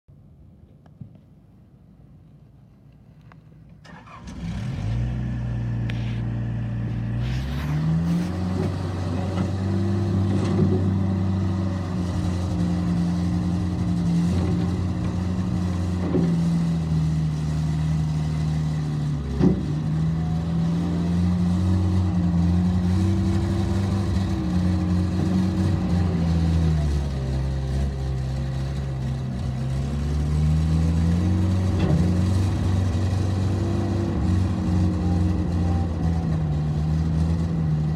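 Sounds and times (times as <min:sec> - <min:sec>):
diesel engine running: 0:03.8 - 0:37.9.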